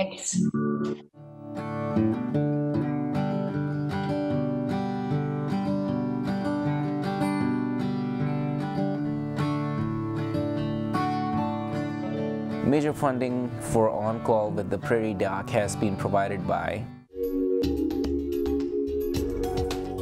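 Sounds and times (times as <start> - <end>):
acoustic guitar music: 0.0 - 17.1.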